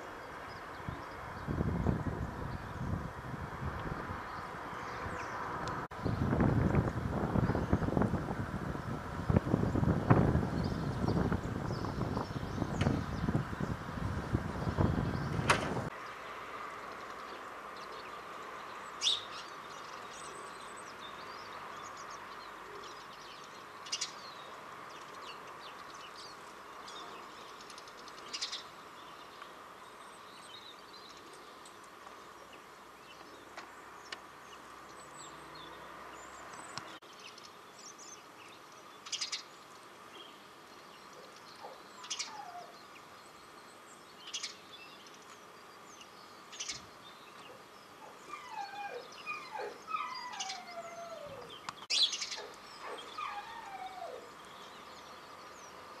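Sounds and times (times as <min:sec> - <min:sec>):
small birds chirping: 0:00.0 - 0:08.1, 0:08.7 - 0:56.0.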